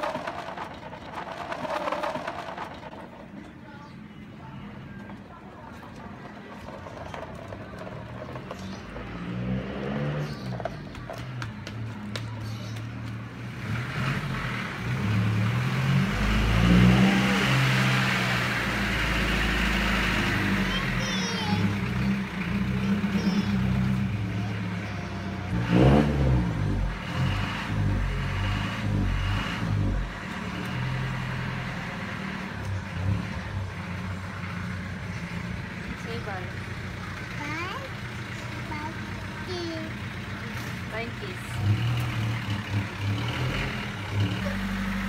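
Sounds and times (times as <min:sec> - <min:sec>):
vehicle engine revving: 0:06.2 - 0:10.9, 0:12.4 - 0:45.0.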